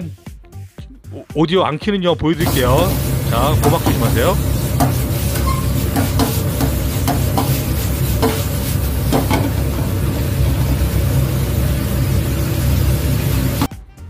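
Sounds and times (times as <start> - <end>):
stir-fry sizzling: 2.4 - 13.7
wok burner roaring: 2.4 - 13.7.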